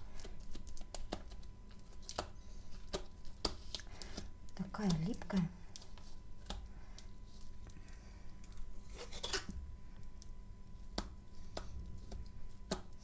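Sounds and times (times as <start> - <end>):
paste squishing in a mould: 0.0 - 13.0.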